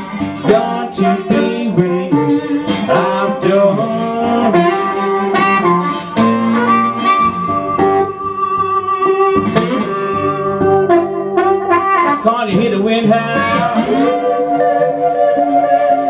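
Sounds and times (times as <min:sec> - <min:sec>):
blues harmonica: 0:00.0 - 0:16.0
resonator guitar: 0:00.0 - 0:16.0.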